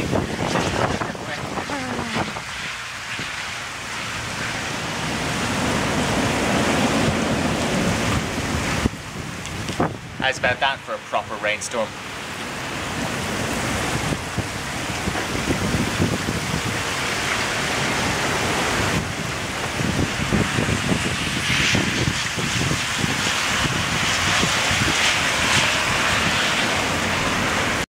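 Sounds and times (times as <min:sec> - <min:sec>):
wind gusting on microphone: 0:00.0 - 0:27.8
heavy rain on pavement: 0:00.0 - 0:27.9.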